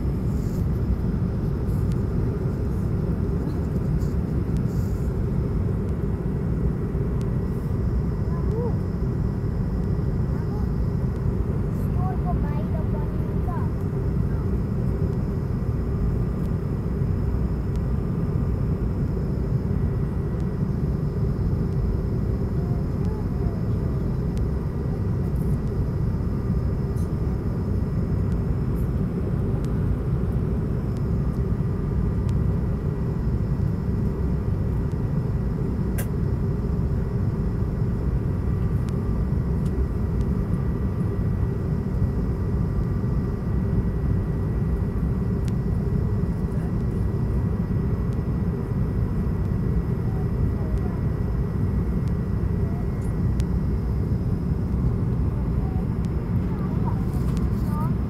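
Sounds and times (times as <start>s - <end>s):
airflow and engine rumble: 0.0s - 58.0s
faint steady tones: 0.0s - 58.0s.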